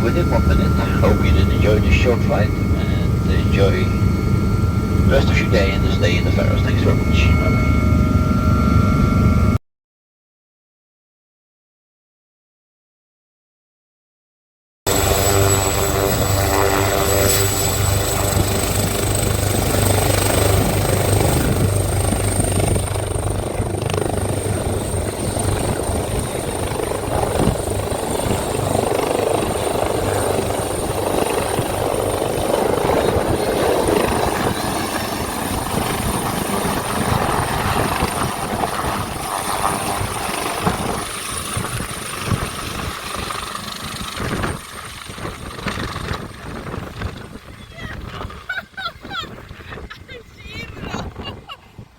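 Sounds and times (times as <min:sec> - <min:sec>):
helicopter rotor drone: 0:00.0 - 0:09.6, 0:14.9 - 0:51.9
high turbine whine: 0:00.0 - 0:09.6, 0:14.9 - 0:51.9.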